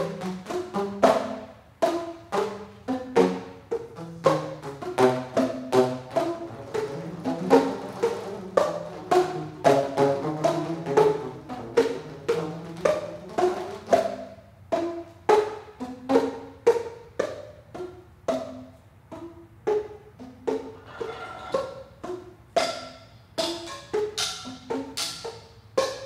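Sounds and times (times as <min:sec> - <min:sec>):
ceramic tubes struck with mallets: 0:00.0 - 0:26.0.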